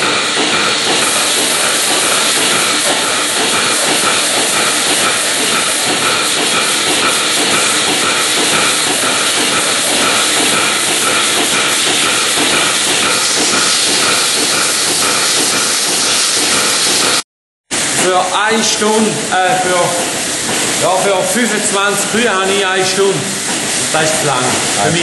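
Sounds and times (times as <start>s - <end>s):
milking machinery hissing: 0.0s - 25.0s.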